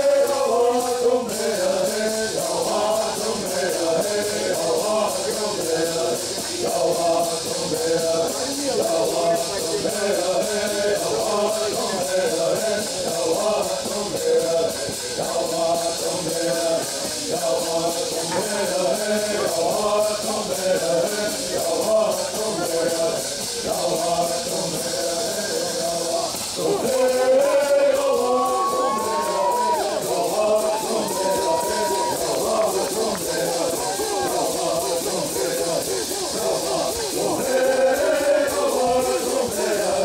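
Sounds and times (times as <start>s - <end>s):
group chanting in unison: 0.0s - 40.0s
gourd rattles shaking: 0.2s - 40.0s.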